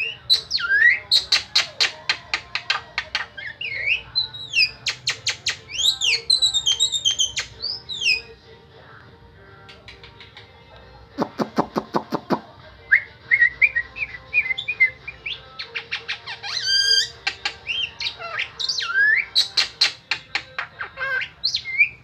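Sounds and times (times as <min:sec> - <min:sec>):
starling singing: 0:00.0 - 0:22.0.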